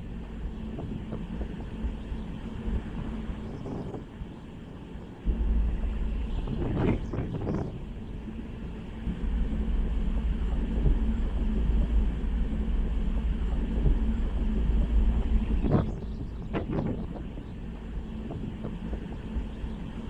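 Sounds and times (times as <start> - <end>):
ferry engines rumbling: 0.0 - 20.0.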